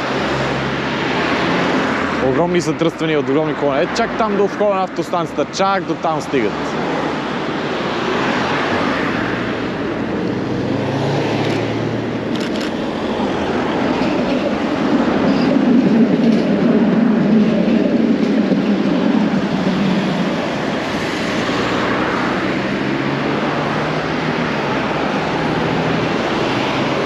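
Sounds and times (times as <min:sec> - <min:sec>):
cars and buses passing: 0:00.0 - 0:27.0.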